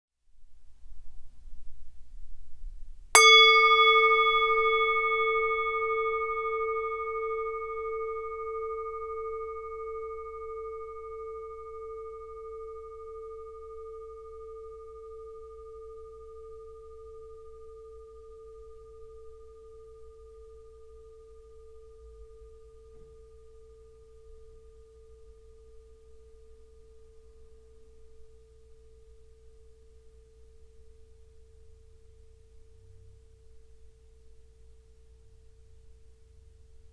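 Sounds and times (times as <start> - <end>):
singing bowl ringing: 3.2 - 32.7.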